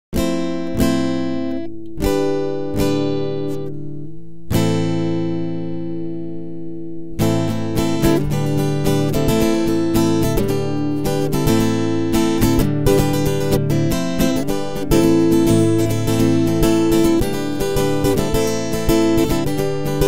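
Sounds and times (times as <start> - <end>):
acoustic guitar strumming chords: 0.2 - 20.0.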